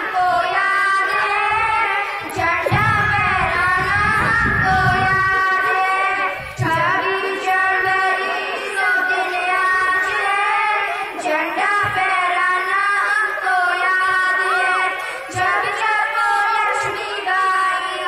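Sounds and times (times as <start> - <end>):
girls singing into microphones: 0.0 - 18.0.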